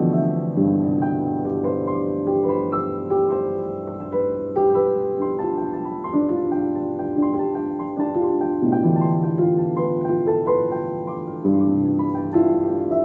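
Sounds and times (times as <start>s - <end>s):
piano chords and melody: 0.0s - 13.0s.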